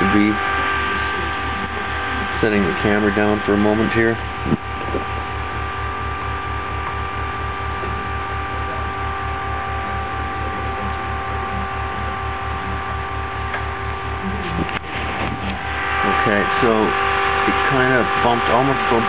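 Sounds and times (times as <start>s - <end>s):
electrical hum with low pulsing: 0.0s - 19.0s
high whining tones: 0.0s - 19.0s.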